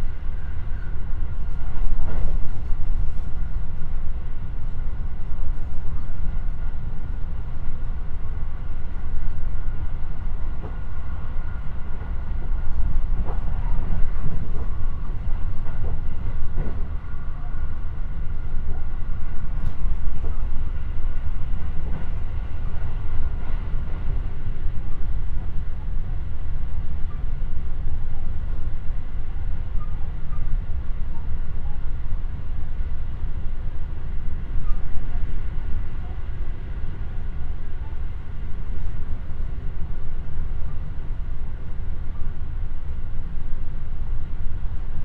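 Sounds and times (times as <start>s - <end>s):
high train whine: 0.0s - 45.0s
wheels rumbling on rail: 0.0s - 45.0s.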